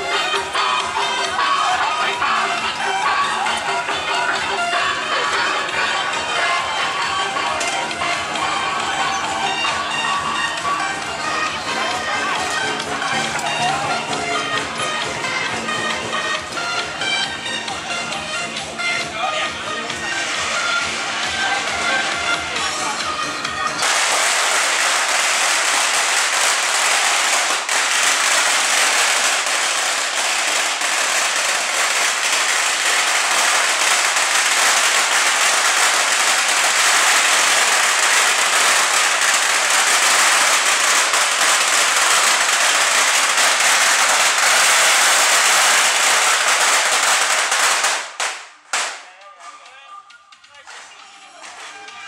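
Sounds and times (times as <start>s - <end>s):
firecrackers crackling: 0.0s - 52.0s.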